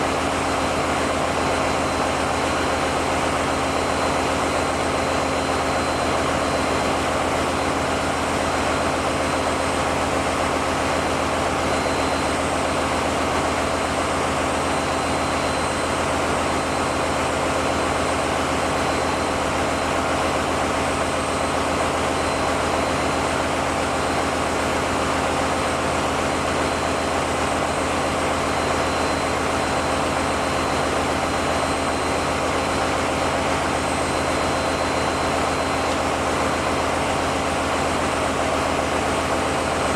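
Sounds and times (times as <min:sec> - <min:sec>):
heavy machinery drone: 0:00.0 - 0:39.9.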